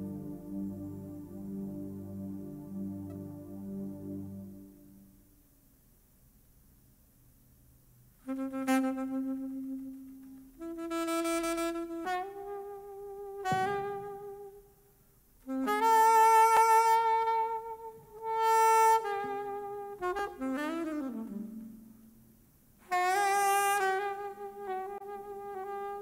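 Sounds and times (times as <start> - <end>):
saxophone playing long notes: 0.0 - 5.3, 8.2 - 14.7, 15.4 - 22.2, 22.8 - 26.0.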